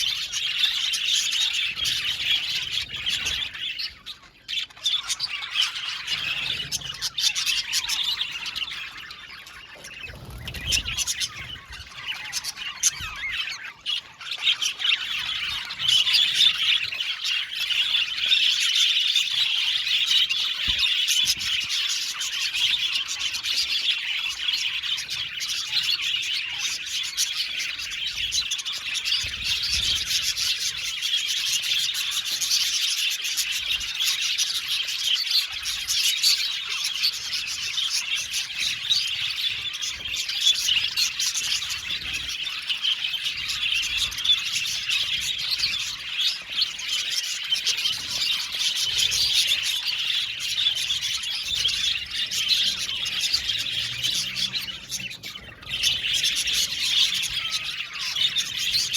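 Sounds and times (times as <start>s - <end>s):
budgerigars chattering and chirping: 0.0s - 58.9s.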